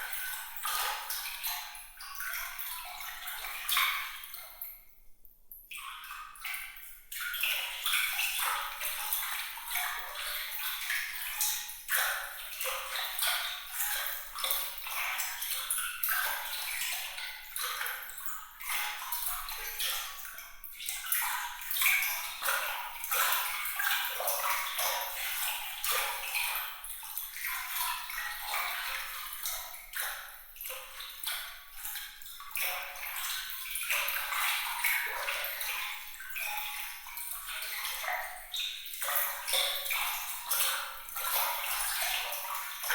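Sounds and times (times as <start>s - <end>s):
water trickling and dripping: 0.0s - 42.9s.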